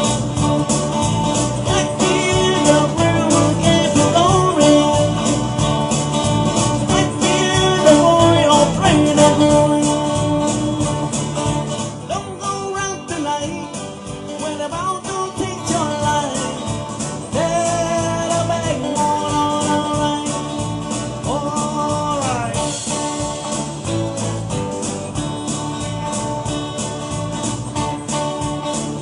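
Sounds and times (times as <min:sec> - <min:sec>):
live band playing country rock: 0:00.0 - 0:29.0.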